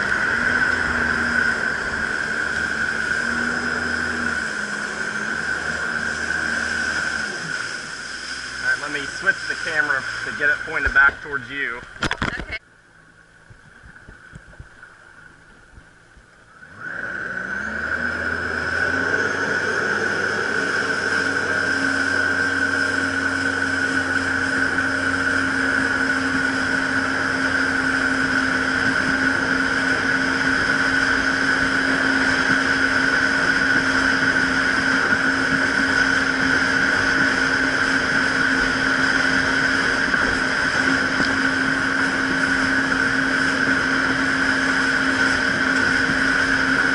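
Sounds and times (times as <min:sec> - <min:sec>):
jet ski engine: 0:00.0 - 0:46.9
water rushing past hull: 0:00.0 - 0:46.9.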